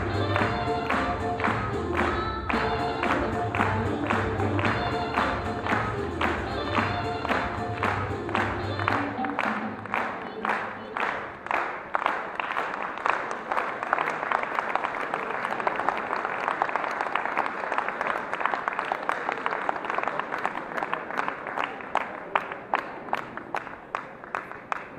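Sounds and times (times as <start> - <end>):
audience applauding: 0.0 - 24.9.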